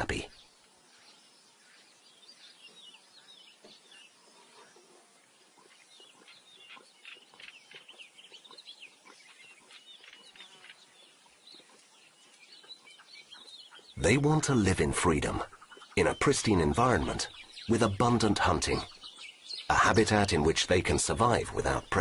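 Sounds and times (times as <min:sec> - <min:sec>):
faint bird chirps: 0:00.0 - 0:22.0
low background hiss: 0:00.0 - 0:22.0.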